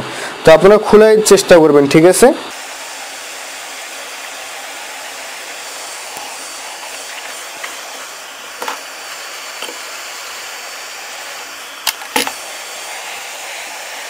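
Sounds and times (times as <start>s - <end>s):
hot air gun blowing: 2.4s - 14.0s.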